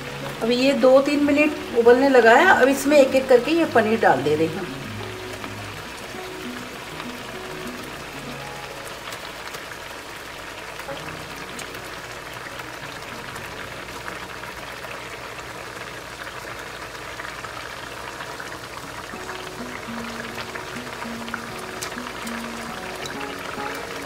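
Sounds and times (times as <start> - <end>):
gravy bubbling in a pan: 0.0 - 24.0.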